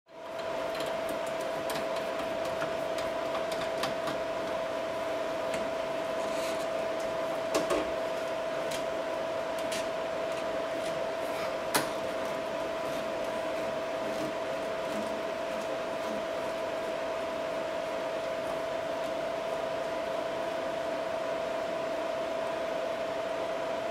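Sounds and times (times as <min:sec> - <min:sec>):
steady hum: 0:00.1 - 0:23.9.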